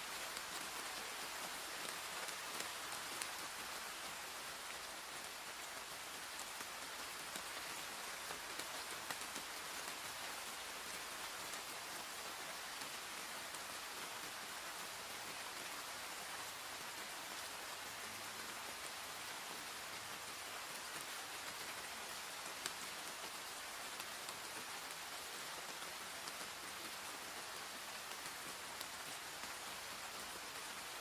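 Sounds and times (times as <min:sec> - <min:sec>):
raindrops ticking close by: 0:00.0 - 0:31.0
steady rain hiss: 0:00.0 - 0:31.0.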